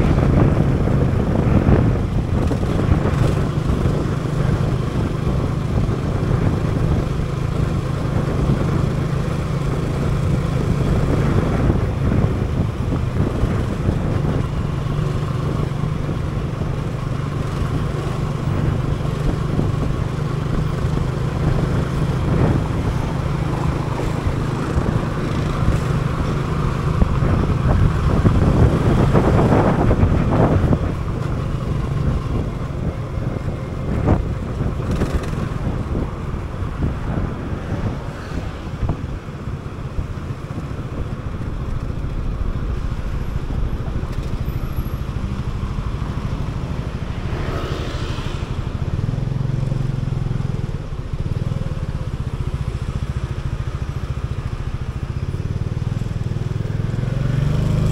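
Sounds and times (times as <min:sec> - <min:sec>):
scooter engine running: 0:00.0 - 0:38.0, 0:48.5 - 0:57.9
passing traffic: 0:00.0 - 0:57.9
road and wind noise: 0:00.0 - 0:57.9.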